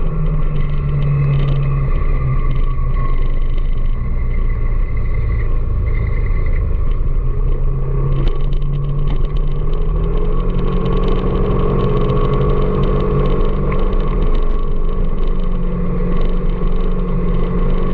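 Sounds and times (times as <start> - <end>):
road and wind rumble: 0.0 - 17.9
vehicle engine running: 0.0 - 17.9.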